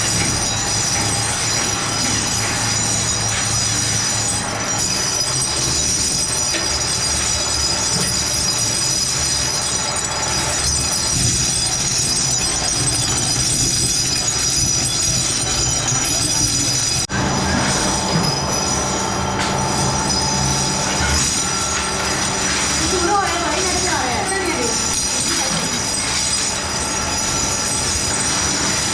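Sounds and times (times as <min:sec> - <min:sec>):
high-pitched machinery squeal: 0:00.0 - 0:28.9.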